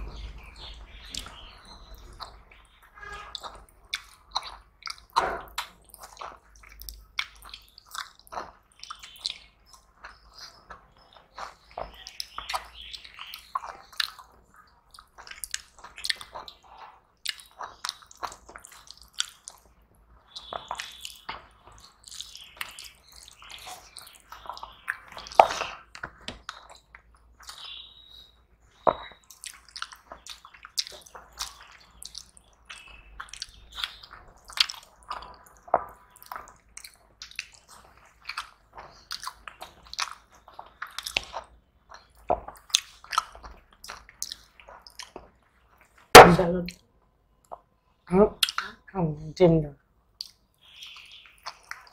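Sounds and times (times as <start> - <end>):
wet chewing and lip smacks: 0.5 - 27.8, 28.7 - 46.8, 47.4 - 47.7, 48.4 - 48.9, 50.1 - 51.9.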